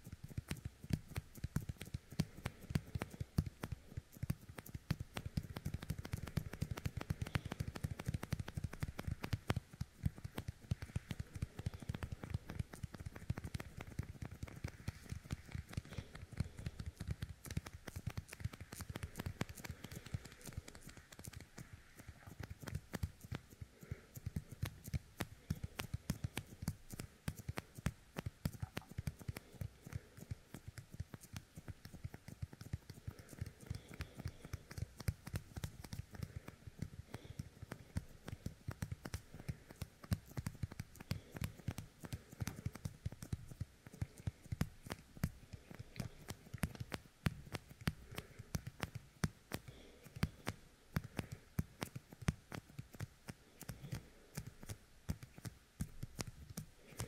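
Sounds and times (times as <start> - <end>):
sticky fingertips crackling: 0.0 - 57.0.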